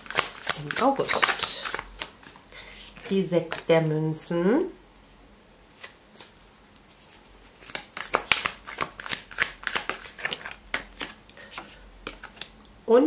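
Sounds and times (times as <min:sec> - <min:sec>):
cards being shuffled: 0:00.0 - 0:03.9, 0:05.8 - 0:12.6.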